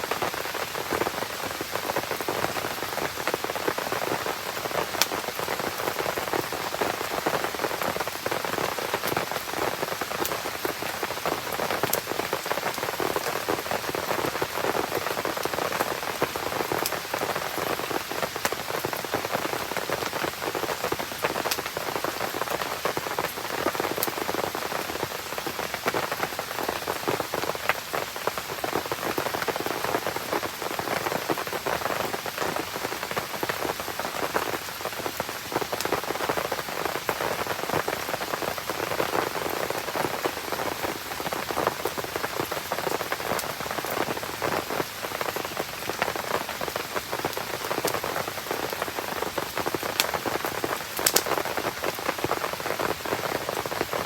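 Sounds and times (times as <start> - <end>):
rain pattering on surfaces: 0.0 - 54.0
campfire popping and crackling: 0.2 - 25.1, 35.4 - 53.9.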